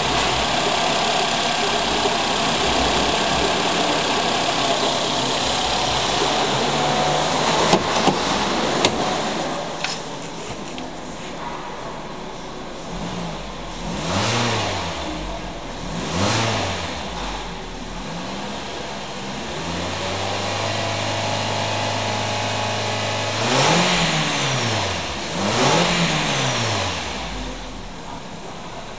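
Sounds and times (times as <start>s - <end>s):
car engine revving: 0.0s - 28.7s.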